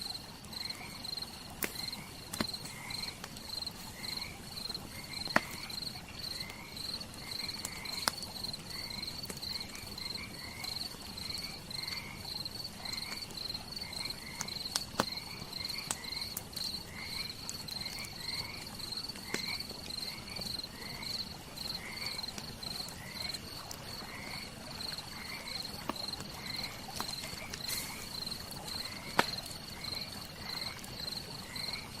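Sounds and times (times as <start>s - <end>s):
campfire crackling and popping: 0.0s - 32.0s
crickets trilling: 0.0s - 32.0s.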